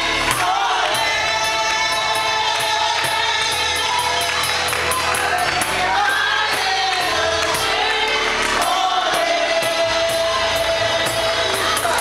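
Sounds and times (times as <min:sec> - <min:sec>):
gospel choir singing: 0:00.0 - 0:12.0
steady percussion beat: 0:00.0 - 0:12.0.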